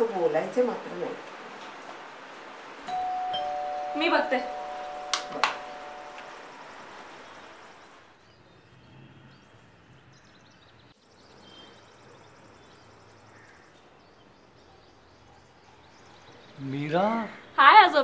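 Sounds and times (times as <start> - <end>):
faint background ambience: 0.0 - 18.0
distant bird chirps: 3.0 - 18.0.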